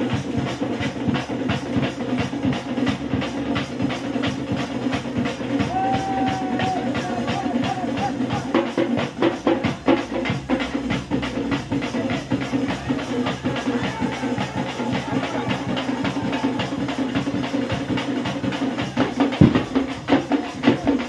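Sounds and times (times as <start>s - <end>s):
barrel drums beating: 0.0s - 21.0s.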